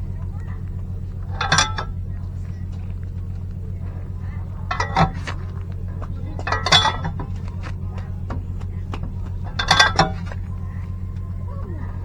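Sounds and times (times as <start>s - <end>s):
steady low hum: 0.0s - 12.0s
metal tools clinking: 0.2s - 12.0s.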